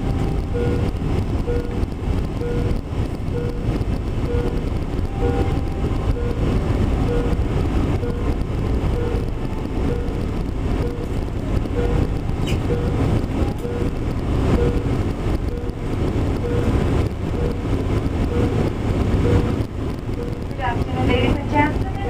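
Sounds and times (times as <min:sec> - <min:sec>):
airliner cabin rumble: 0:00.0 - 0:22.0
short electronic beeps: 0:00.4 - 0:07.4, 0:08.0 - 0:18.6, 0:19.2 - 0:20.6.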